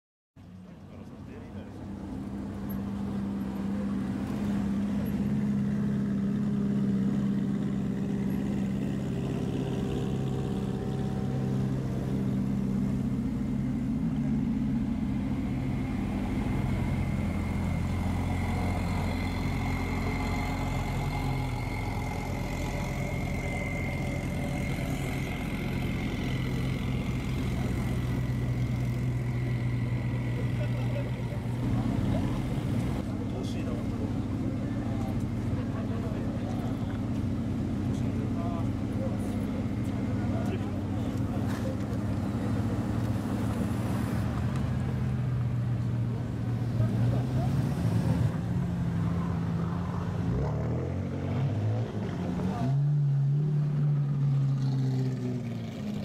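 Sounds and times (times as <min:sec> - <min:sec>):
sports car engines droning: 0:00.4 - 0:56.0.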